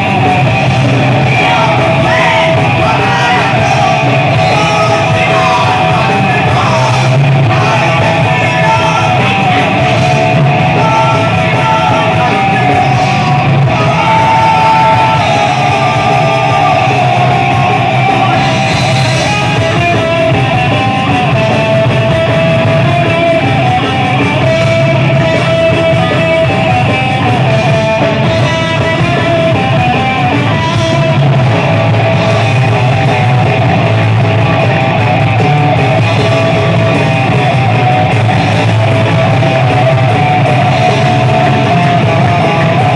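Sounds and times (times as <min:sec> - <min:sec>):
distorted electric guitar: 0:00.0 - 0:42.9
drums: 0:00.0 - 0:42.9.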